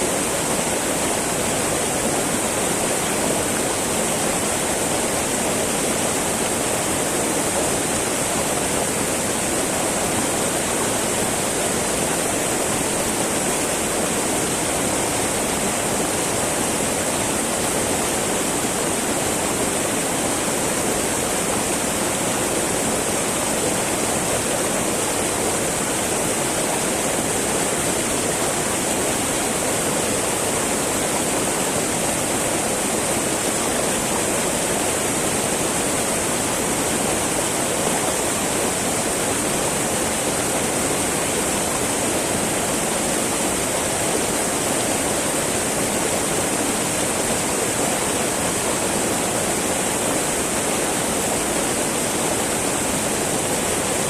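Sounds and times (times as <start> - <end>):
river babbling over rocks: 0.0 - 54.0.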